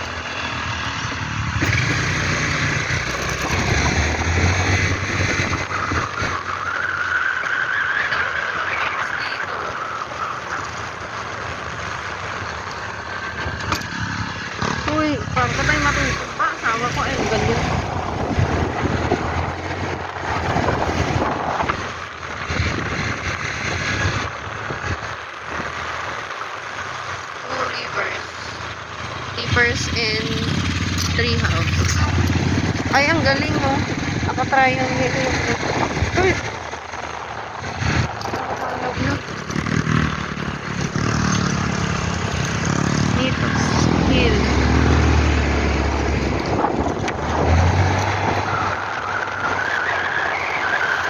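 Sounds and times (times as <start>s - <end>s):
wind buffeting microphone: 0.0s - 6.6s, 10.3s - 26.1s, 28.5s - 51.0s
vehicle driving with road noise: 0.0s - 51.0s.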